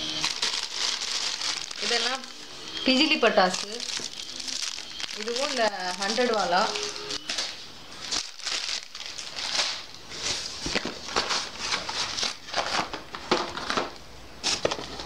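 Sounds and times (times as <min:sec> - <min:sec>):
plastic wrapping crinkling: 0:00.0 - 0:15.0
cardboard boxes rustling: 0:00.2 - 0:02.3, 0:03.4 - 0:15.0.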